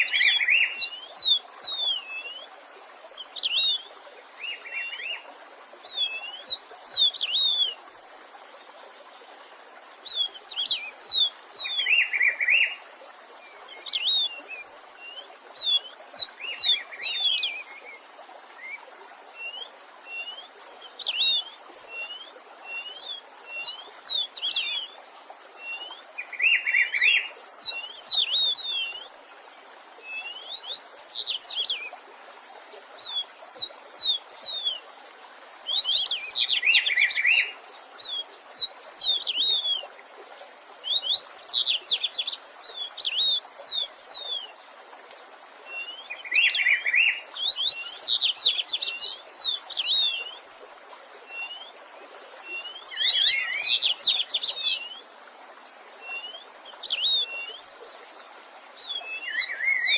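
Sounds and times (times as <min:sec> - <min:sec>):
faint running stream hiss: 0:00.0 - 0:59.9
songbird singing: 0:00.0 - 0:59.9.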